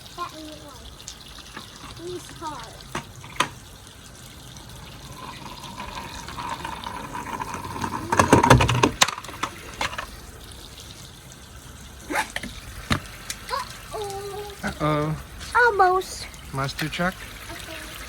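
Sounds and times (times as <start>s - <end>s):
toy car splashing into pool: 0.0s - 18.0s
water running: 0.0s - 18.0s.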